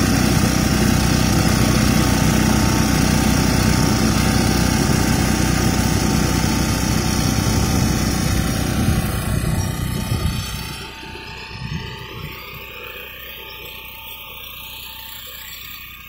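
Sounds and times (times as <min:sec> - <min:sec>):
reaper cutting through crop: 0:00.0 - 0:15.9
reaper engine running: 0:00.0 - 0:16.0.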